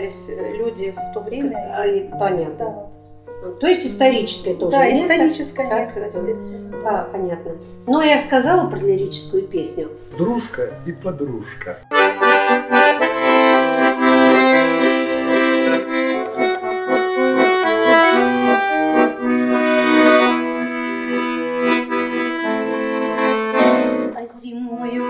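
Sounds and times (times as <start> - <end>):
accordion playing slow song: 0.0 - 25.0.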